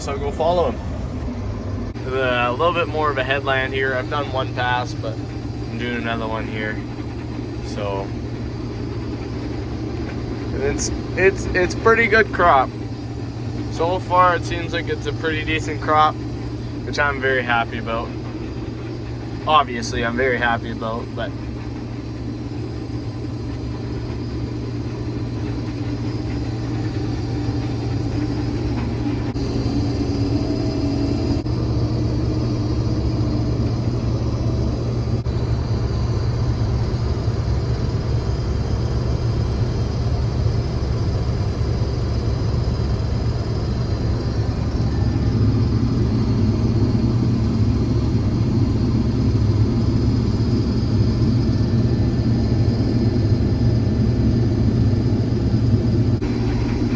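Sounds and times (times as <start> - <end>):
combine harvester engine drone: 0.0 - 56.9.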